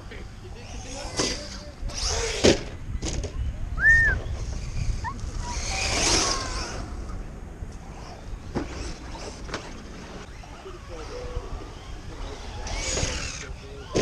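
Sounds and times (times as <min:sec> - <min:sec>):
rc truck motor and tyres on dirt: 0:00.0 - 0:14.0.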